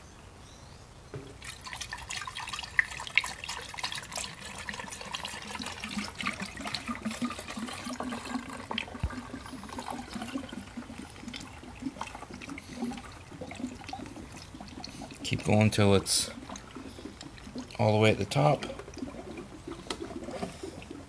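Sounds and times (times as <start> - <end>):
coolant splashing through a funnel: 1.2 - 21.0.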